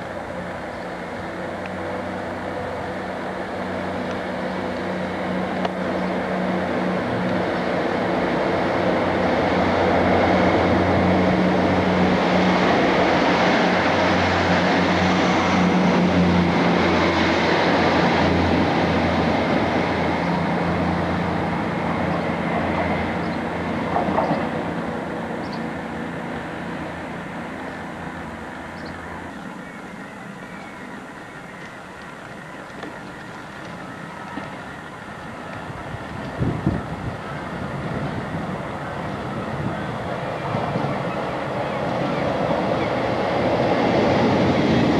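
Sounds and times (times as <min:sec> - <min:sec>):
diesel train engine: 0:00.0 - 0:44.9
train wheel noise: 0:00.0 - 0:44.9.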